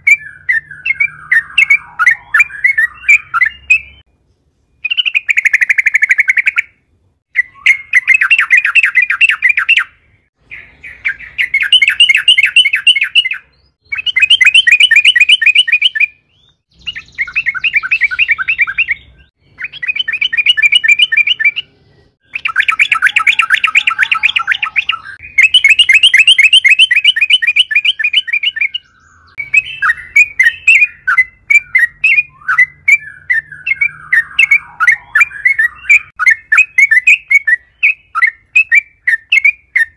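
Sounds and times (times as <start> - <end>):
bird singing rolling song: 0.0 - 39.9.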